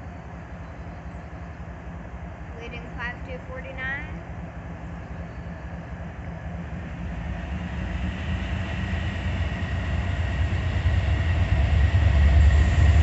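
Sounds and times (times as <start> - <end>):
diesel locomotive rumble: 0.0 - 13.0
steady high whine: 0.0 - 13.0.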